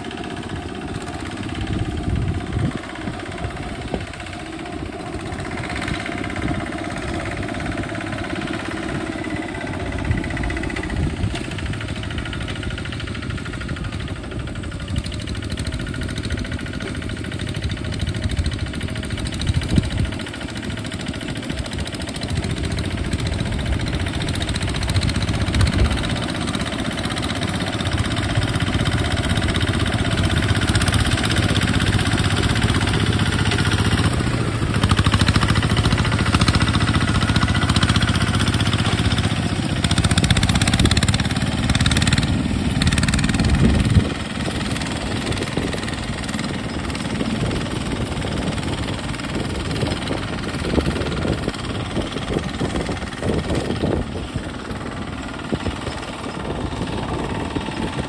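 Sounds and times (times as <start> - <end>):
walking tractor diesel engine: 0.0 - 58.0.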